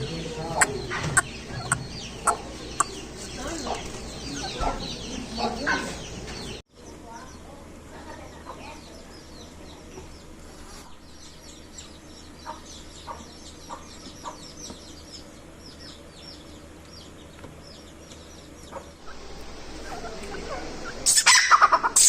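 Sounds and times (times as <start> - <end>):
birds chirping: 0.0 - 22.0
low steady hum: 0.0 - 22.0.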